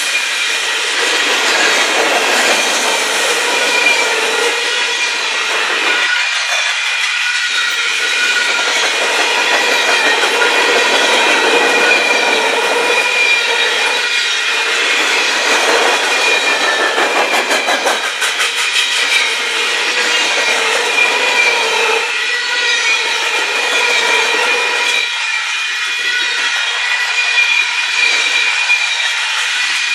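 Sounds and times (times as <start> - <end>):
freight car wheels rolling on rail: 0.0 - 29.9.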